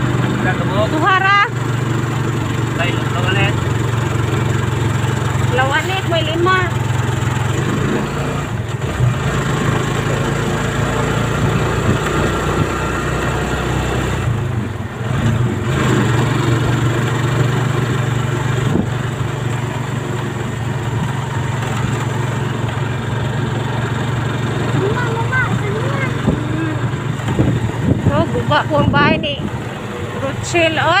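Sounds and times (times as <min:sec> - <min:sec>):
road rushing noise: 0:00.0 - 0:31.0
vehicle engine droning: 0:00.0 - 0:31.0.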